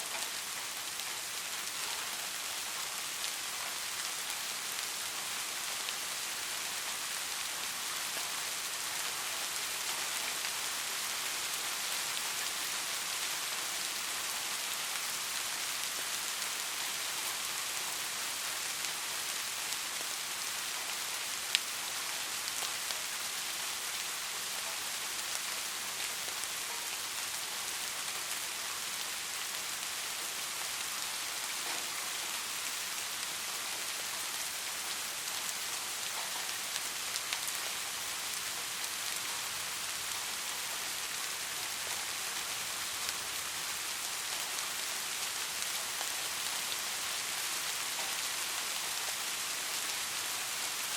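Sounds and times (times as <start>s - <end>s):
rain falling on a street: 0.0s - 50.9s.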